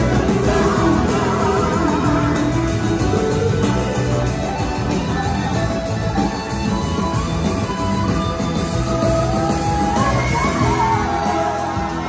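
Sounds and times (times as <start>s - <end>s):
live rock band playing: 0.0s - 12.0s
pitch-bending lead melody: 0.0s - 12.0s.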